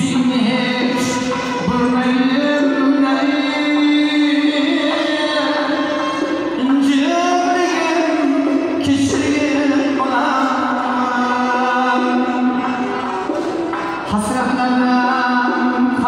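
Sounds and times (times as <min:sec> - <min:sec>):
man singing long held notes: 0:00.0 - 0:13.1
small stringed instrument: 0:00.0 - 0:16.0.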